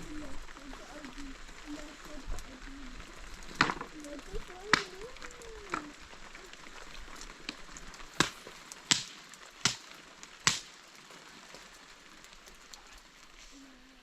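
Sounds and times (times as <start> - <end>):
faint clicks: 0.0 - 13.8
steady hiss: 0.0 - 14.0.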